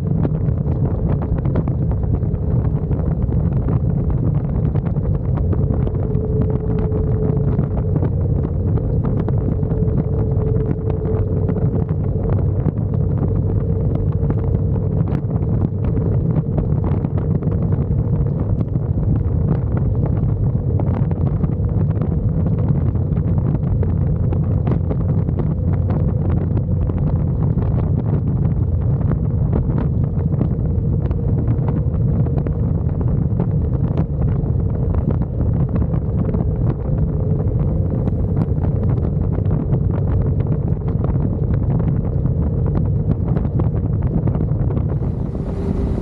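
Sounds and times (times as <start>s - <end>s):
faint steady hum: 0.0s - 46.0s
motorcycle road and engine noise: 0.0s - 46.0s
wind buffeting microphone: 0.0s - 46.0s.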